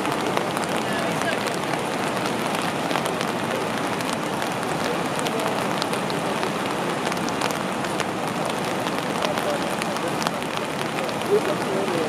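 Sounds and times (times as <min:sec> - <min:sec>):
water rushing over rock ledges: 0:00.0 - 0:12.0.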